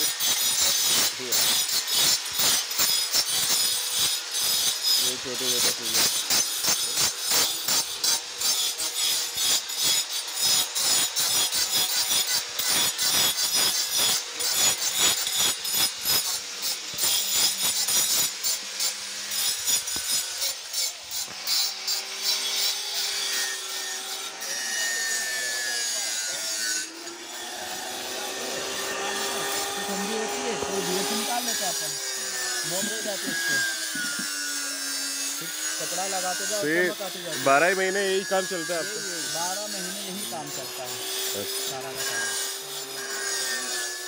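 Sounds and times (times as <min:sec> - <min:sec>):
tool rasping on stone: 0:00.0 - 0:44.0.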